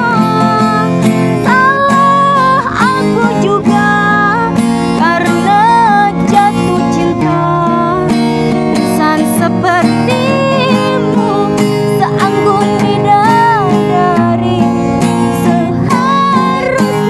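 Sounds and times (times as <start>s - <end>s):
acoustic guitar: 0.0s - 17.0s
woman singing a ballad: 0.0s - 17.0s.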